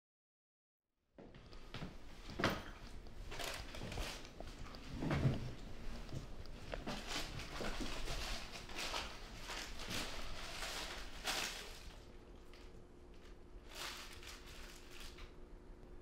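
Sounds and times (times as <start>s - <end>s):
clothing rustling and handling: 1.5s - 15.2s.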